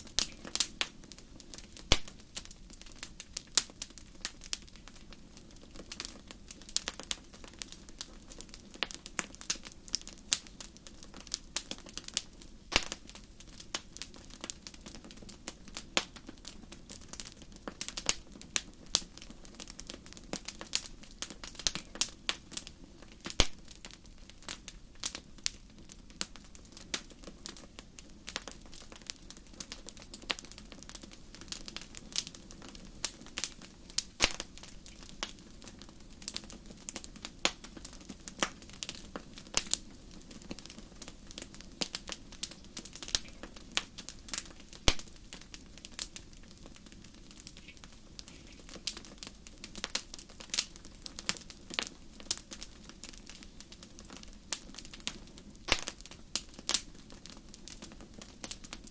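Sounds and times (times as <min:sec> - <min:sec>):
wood fire crackling in fireplace: 0:00.0 - 0:58.9.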